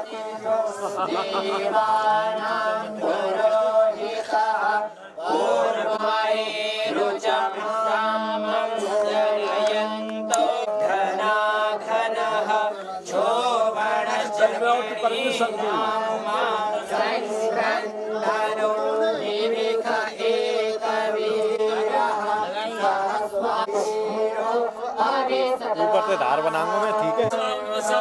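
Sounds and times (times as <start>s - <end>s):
voices chanting melodically: 0.0s - 28.0s.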